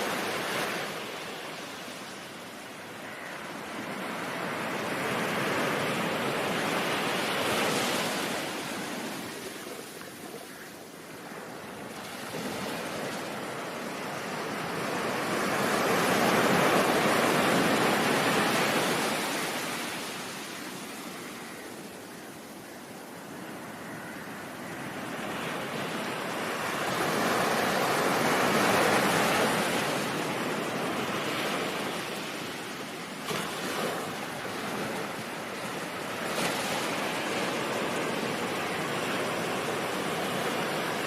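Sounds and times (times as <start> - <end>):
ocean waves breaking: 0.0 - 21.6, 23.6 - 41.0.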